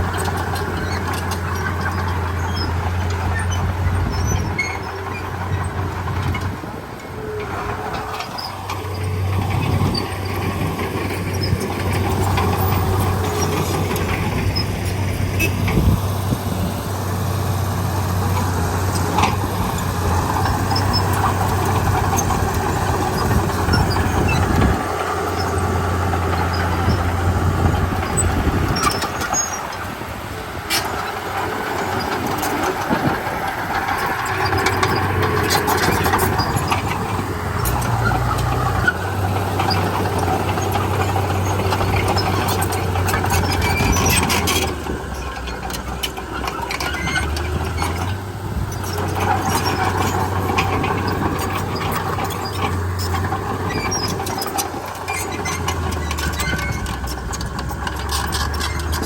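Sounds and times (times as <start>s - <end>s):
short clanks and squeaks: 0.0s - 16.6s, 17.3s - 30.0s, 30.6s - 59.0s
bulldozer diesel engine running: 0.0s - 59.0s.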